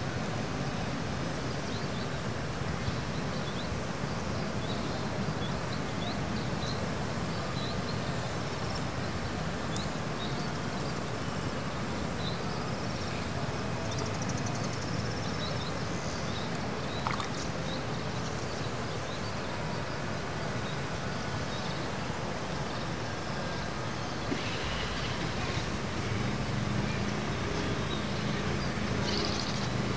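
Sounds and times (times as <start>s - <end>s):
outdoor noise: 0.0s - 29.9s.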